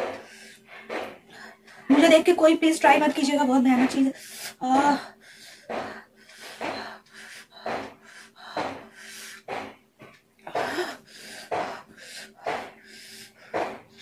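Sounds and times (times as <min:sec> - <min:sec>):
woman breathing hard: 0:00.0 - 0:01.9, 0:04.1 - 0:14.0.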